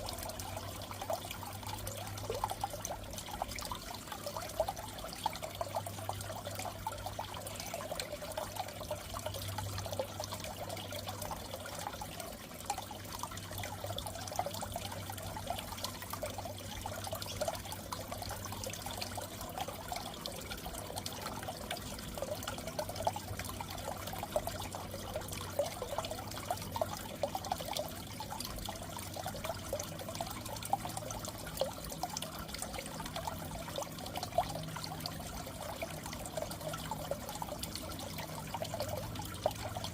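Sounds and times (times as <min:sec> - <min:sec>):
aquarium water bubbling: 0:00.0 - 0:39.9
low steady hum: 0:00.0 - 0:39.9.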